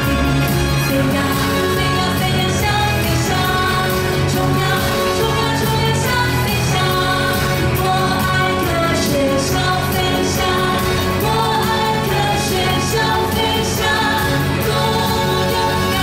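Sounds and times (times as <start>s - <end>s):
pop band playing: 0.0s - 16.0s
woman singing into microphone: 0.0s - 16.0s.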